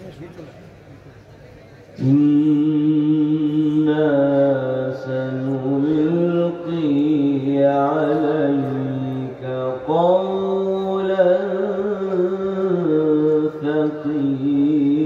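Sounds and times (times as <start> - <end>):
man chanting into a microphone: 2.0 - 15.0.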